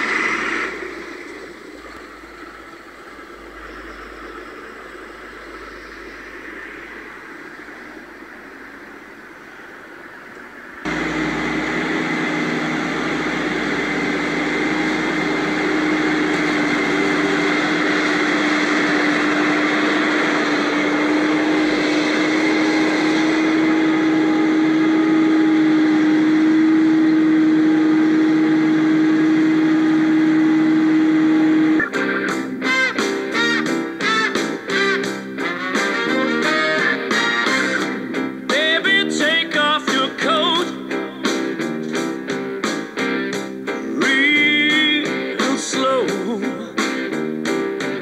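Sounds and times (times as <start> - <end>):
forage harvester droning: 0.0 - 46.6.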